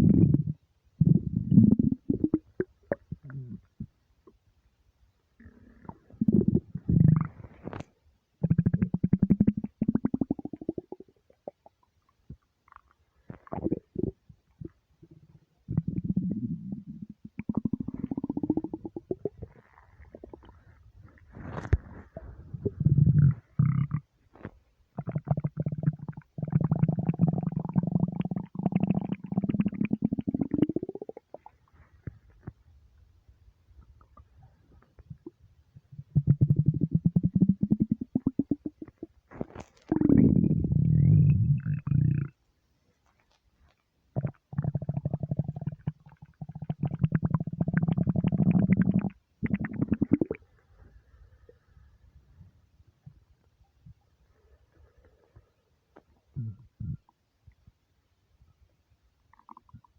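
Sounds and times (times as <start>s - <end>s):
stomach rumbling: 0.0s - 4.4s, 5.4s - 32.8s, 33.8s - 57.8s, 59.3s - 59.9s.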